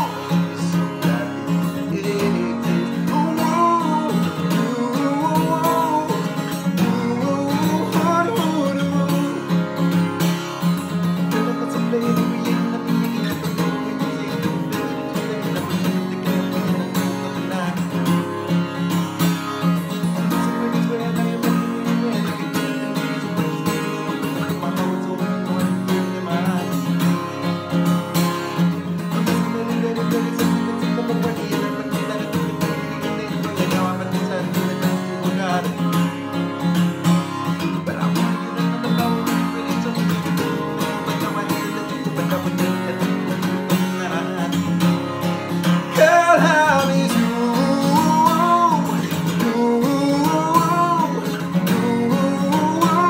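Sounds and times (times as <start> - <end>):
acoustic guitar strumming: 0.0 - 53.0
man singing: 0.0 - 53.0.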